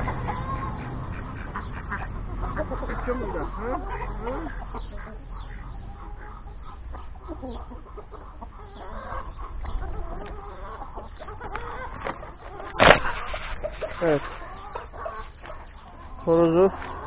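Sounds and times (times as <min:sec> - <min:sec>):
chickens clucking softly: 0:00.0 - 0:17.0.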